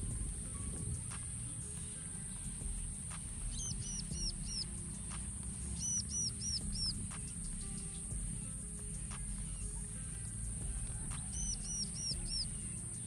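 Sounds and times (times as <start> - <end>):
bird calling high notes: 0.0 - 13.0
outdoor rumble: 0.0 - 13.0.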